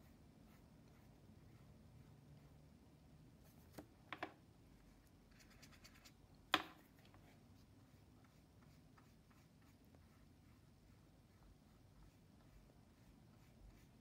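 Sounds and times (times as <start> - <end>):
brush scratching: 0.0 - 2.6, 4.8 - 6.2, 6.8 - 14.0.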